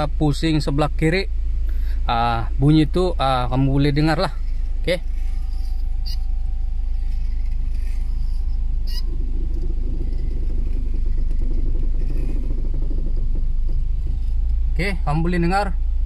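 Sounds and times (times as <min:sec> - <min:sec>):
car engine idling: 0:00.0 - 0:16.0
rapid rattling grind from suspension: 0:02.6 - 0:16.0.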